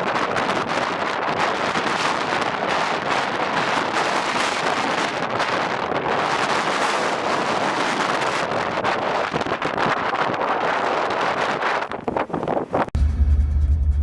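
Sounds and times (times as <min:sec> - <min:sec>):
strong wind on microphone: 0:00.0 - 0:13.0.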